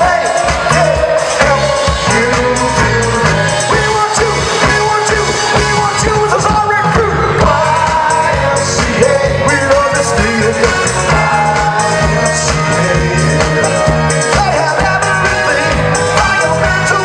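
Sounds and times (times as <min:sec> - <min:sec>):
funk band playing: 0:00.0 - 0:17.0
lead vocalist singing: 0:00.0 - 0:17.0.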